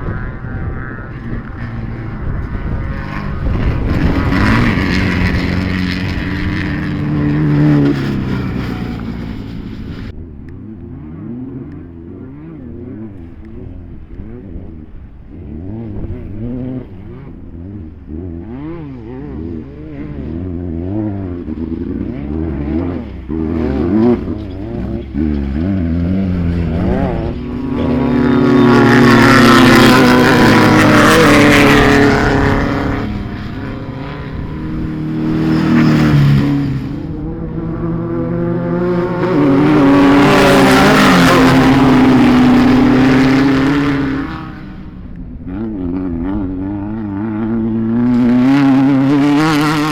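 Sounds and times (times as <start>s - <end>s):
racing engines revving: 0.0s - 49.9s
vehicles passing close: 0.0s - 49.9s.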